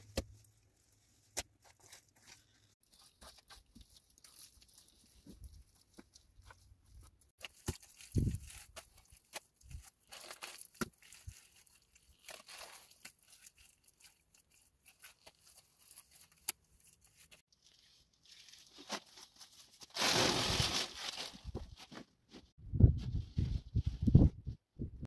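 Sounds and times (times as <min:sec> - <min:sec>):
plastic bag rustling: 0:01.8 - 0:22.4.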